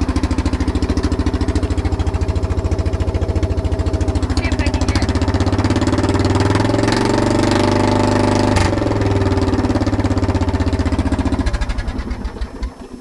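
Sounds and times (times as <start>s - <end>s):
lawn tractor engine running: 0.0s - 13.0s.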